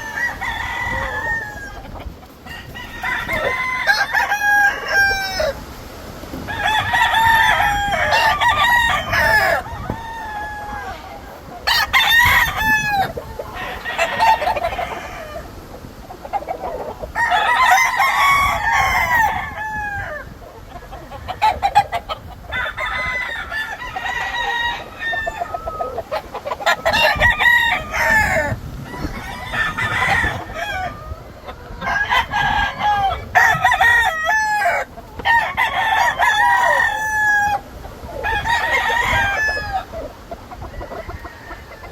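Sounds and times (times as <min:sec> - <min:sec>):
roosters crowing: 0:00.0 - 0:41.9.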